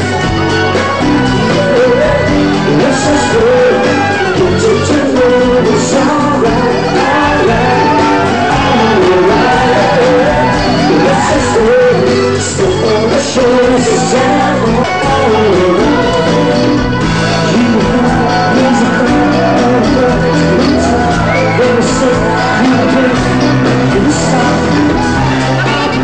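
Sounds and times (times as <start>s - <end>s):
lead singer singing: 0.0s - 26.0s
live rock band playing: 0.0s - 26.0s.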